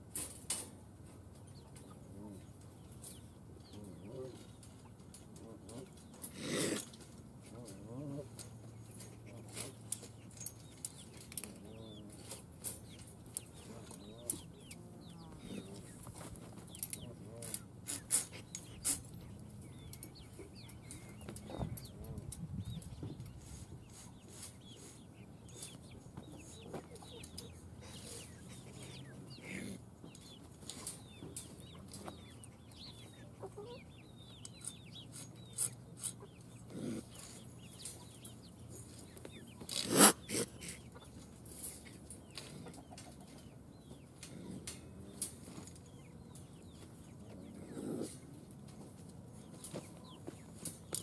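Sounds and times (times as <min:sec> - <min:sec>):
chickens clucking: 0:00.0 - 0:51.0.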